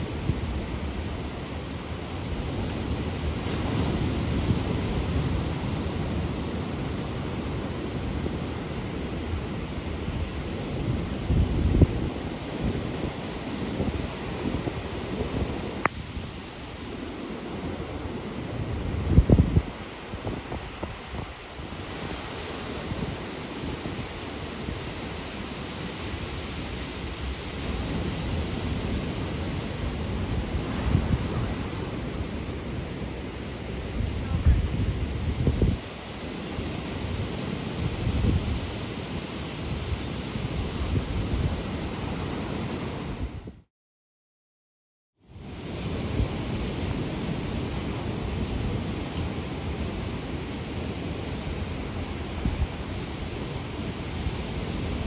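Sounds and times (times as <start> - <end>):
ocean surf roar: 0.0 - 43.3, 45.4 - 55.0
wind rumbling on microphone: 0.0 - 43.6, 45.4 - 55.0.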